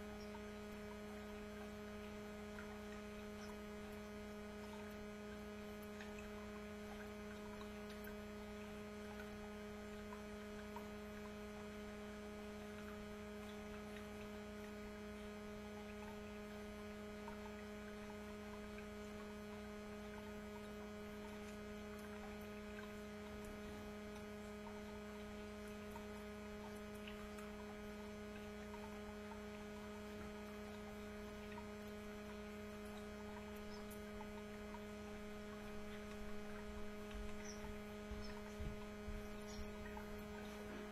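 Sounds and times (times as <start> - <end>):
electrical hum: 0.0 - 40.9
faint small ticks: 0.0 - 40.9.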